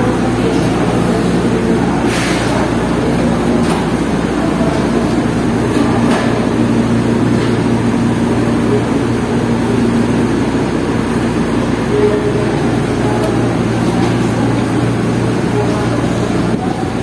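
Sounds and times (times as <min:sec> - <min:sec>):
faint indistinct voices: 0:00.0 - 0:17.0
low hum and rumble: 0:00.0 - 0:17.0.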